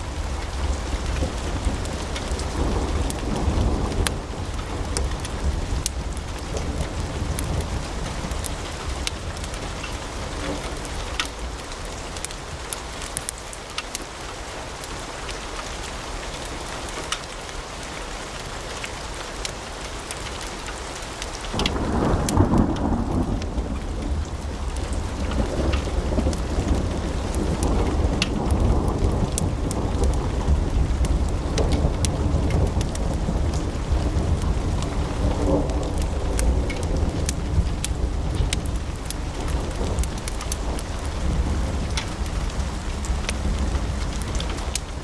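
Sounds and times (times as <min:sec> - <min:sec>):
fire crackling and popping: 0:00.0 - 0:15.7, 0:18.4 - 0:45.0
low rumble of fire flames: 0:00.0 - 0:45.0.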